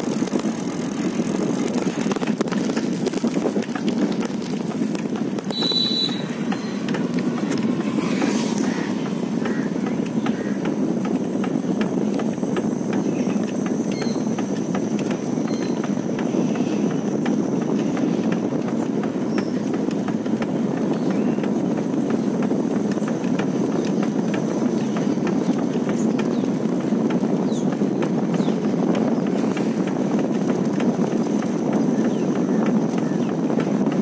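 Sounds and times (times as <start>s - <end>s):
small ticks and rattles: 0.0s - 34.0s
wind noise on microphone: 0.0s - 34.0s.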